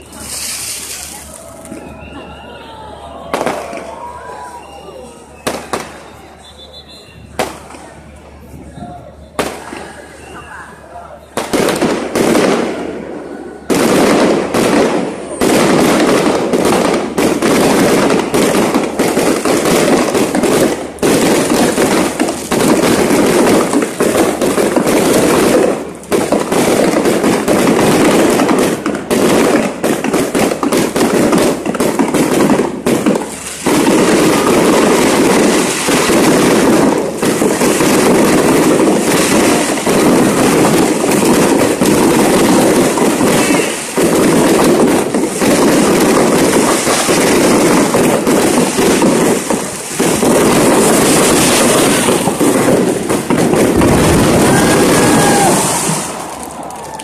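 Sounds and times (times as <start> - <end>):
fireworks crackling bangs: 0.0 - 57.0.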